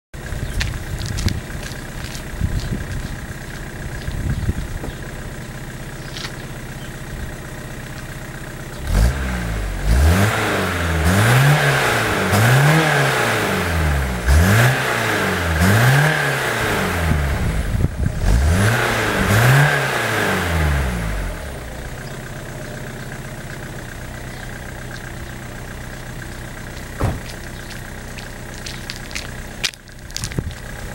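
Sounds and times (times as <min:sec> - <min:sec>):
diesel engine idling and revving: 0:00.2 - 0:30.9.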